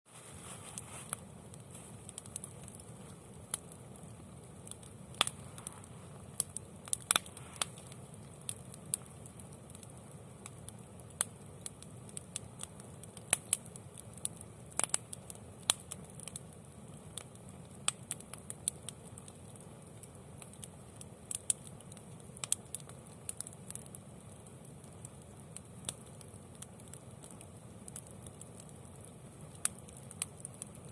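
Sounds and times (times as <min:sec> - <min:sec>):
campfire crackling and popping: 0:00.1 - 0:30.9.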